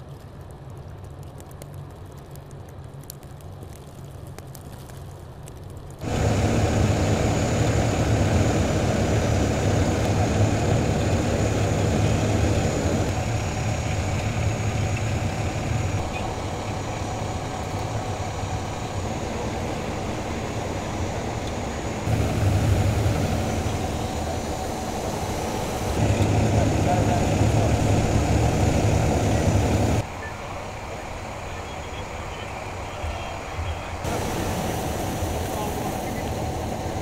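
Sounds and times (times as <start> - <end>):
vehicle engines idling: 6.0 - 37.0.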